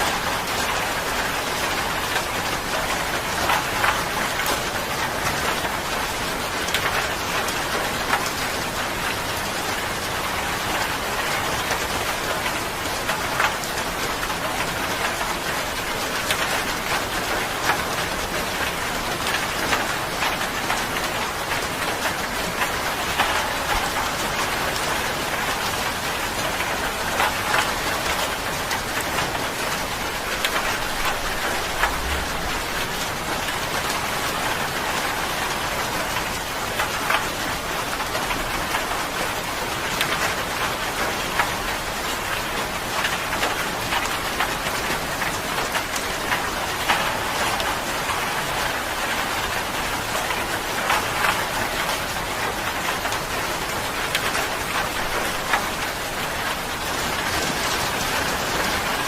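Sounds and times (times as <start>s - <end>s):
rain hissing on a surface: 0.0s - 59.0s
individual raindrops: 0.1s - 59.0s.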